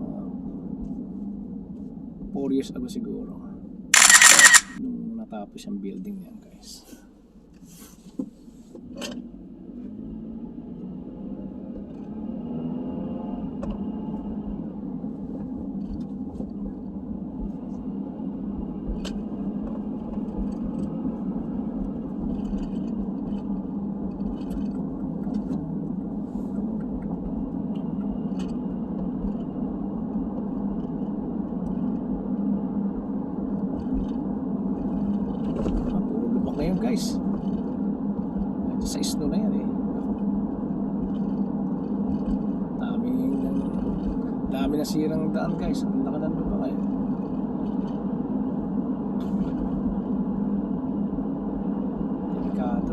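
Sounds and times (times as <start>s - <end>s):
road rumble: 7.7s - 52.9s.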